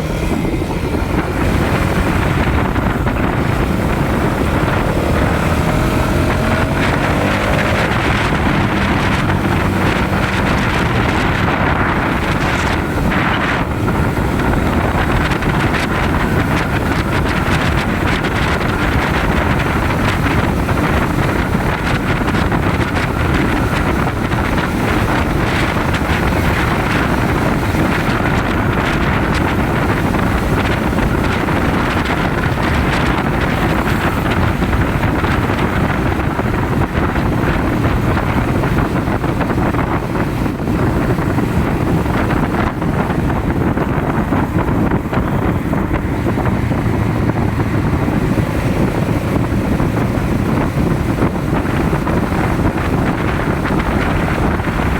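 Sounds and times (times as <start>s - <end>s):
motorcycle running: 0.0s - 54.9s
road noise: 0.0s - 54.9s
wind buffeting microphone: 0.0s - 54.9s.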